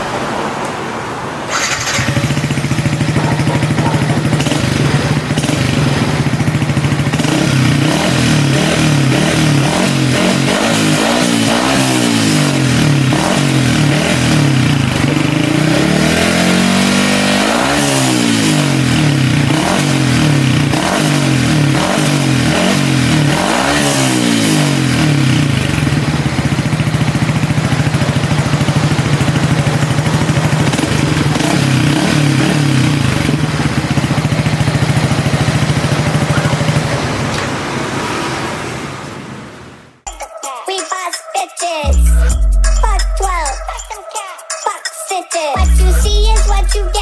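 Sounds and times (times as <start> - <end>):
motorcycle engine revving: 1.5 - 39.0, 41.9 - 43.8, 45.6 - 47.0.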